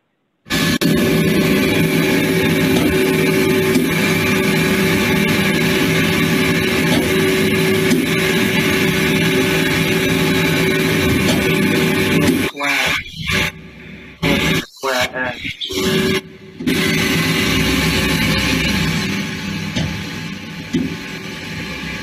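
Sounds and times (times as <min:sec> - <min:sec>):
lathe machining hum: 0:00.5 - 0:22.0.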